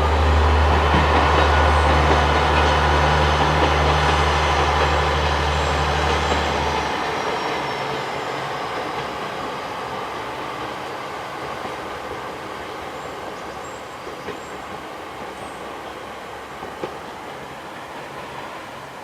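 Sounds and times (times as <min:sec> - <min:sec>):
train running on rails: 0:00.0 - 0:19.0.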